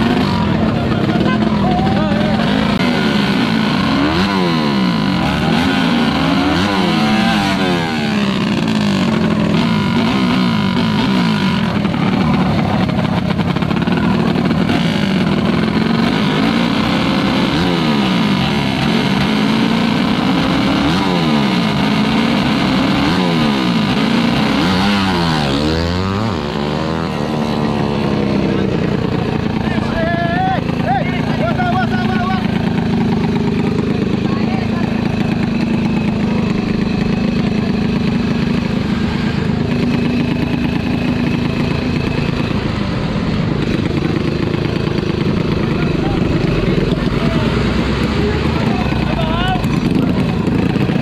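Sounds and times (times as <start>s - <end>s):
motorbike engines revving: 0.0s - 51.0s.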